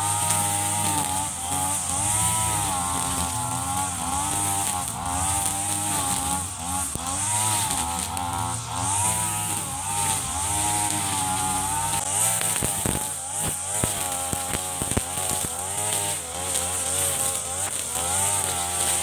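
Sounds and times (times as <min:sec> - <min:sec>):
brush cutter engine cutting grass: 0:00.0 - 0:19.0.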